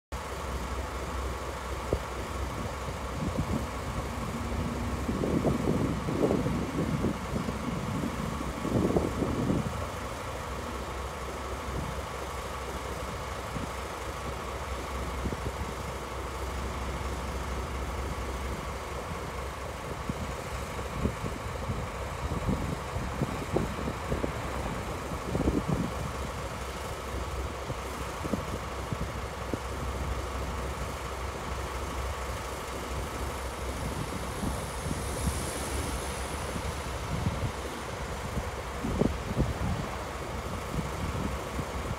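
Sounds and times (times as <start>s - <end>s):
diesel locomotive engine idling: 0.1s - 41.9s.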